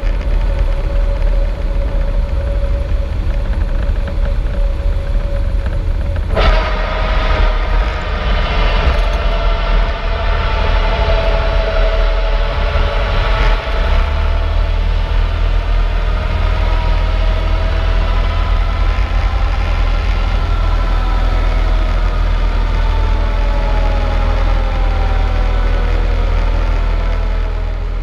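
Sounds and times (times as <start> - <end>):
propeller plane engine idling: 0.0 - 6.4, 7.3 - 28.0.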